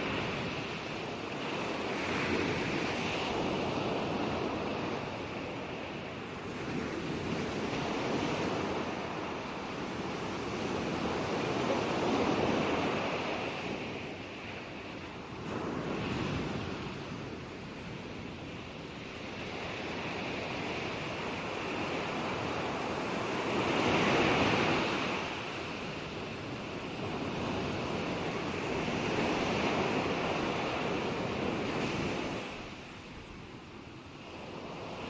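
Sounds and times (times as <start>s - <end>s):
ocean waves breaking on shore: 0.0s - 35.0s.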